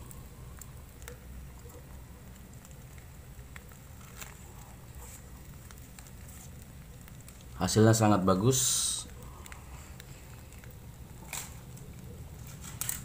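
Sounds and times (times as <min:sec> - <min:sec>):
crackling leaf being peeled: 0:00.0 - 0:13.0
low steady hum: 0:00.0 - 0:13.0.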